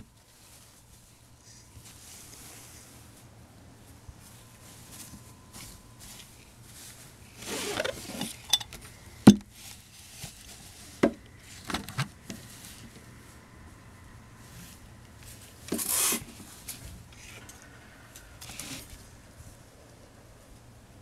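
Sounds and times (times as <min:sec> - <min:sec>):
rustle: 0:00.0 - 0:21.0.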